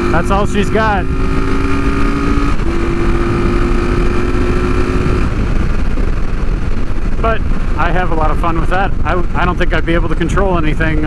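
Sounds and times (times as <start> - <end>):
motorcycle engine running: 0.0 - 11.0
wind rush: 0.0 - 11.0.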